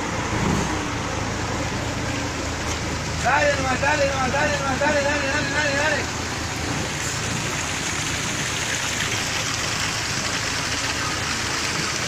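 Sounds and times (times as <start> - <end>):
bus engine running low: 0.0 - 12.0.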